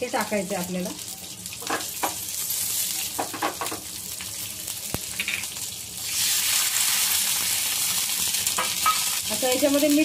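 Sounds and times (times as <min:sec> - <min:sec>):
chillies sizzling in hot oil: 0:00.0 - 0:10.0.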